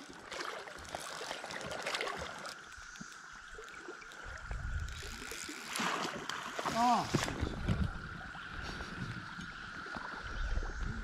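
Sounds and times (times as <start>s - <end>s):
cicadas droning chorus: 0.0s - 11.0s
river water trickling and splashing: 0.0s - 11.0s.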